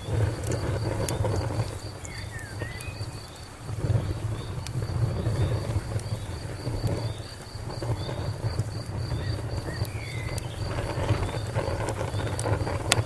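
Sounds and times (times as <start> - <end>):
high insect chirp: 0.0 - 13.0
wood fire crackling and popping: 0.0 - 13.0.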